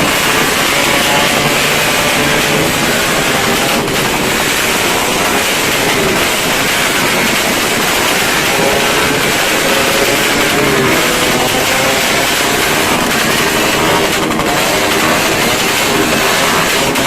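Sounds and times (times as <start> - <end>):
dense firecrackers roaring: 0.0 - 17.0.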